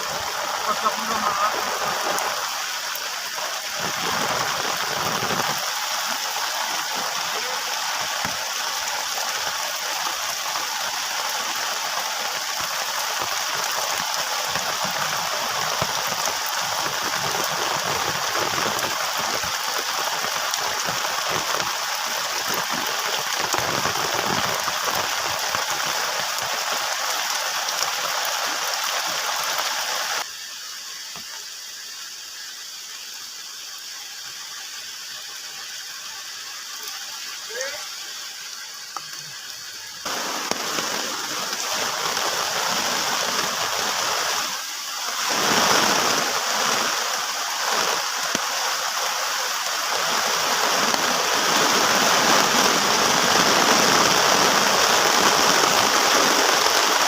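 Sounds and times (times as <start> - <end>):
heavy rain on a plastic tarp: 0.0 - 57.0.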